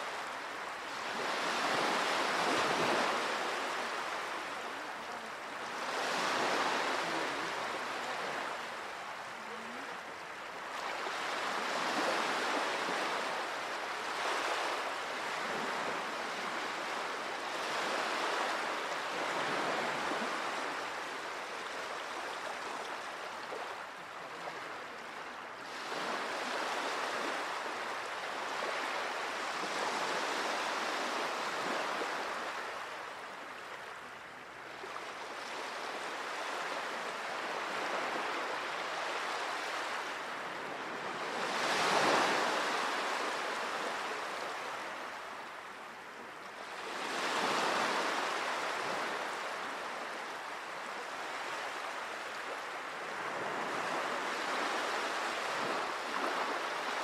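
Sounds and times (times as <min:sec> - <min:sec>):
small waves washing onto shore: 0:00.0 - 0:57.0.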